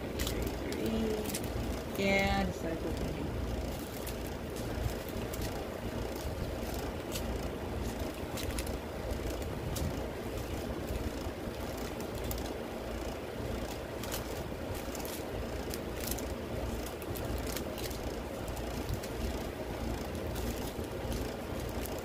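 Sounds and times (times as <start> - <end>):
plastic bags crinkling: 0.0 - 12.6, 13.4 - 22.0
steady low rumble: 0.0 - 22.0.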